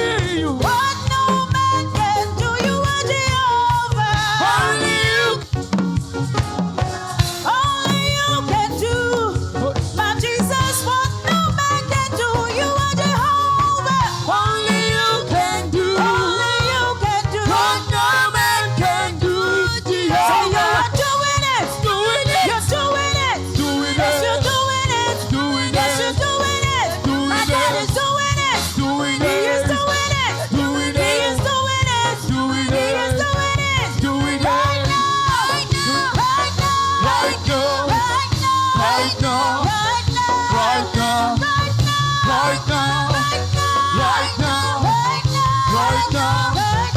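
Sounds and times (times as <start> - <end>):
church band playing a steady beat: 0.0 - 46.9
gospel singing: 0.0 - 46.9.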